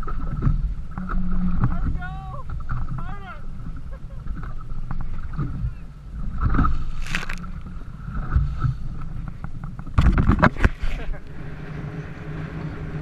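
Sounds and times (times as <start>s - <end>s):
waves splashing against hull: 0.0s - 13.0s.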